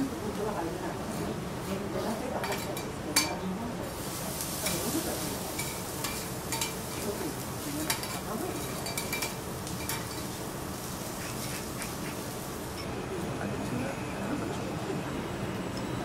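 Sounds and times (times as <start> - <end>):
food sizzling on griddle: 0.0 - 14.6.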